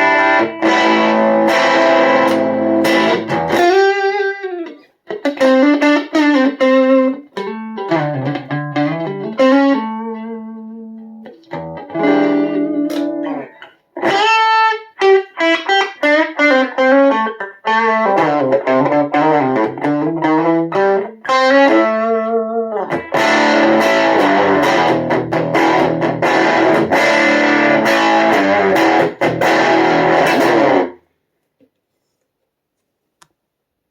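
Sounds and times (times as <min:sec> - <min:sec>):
electric guitar melody: 0:00.0 - 0:31.1.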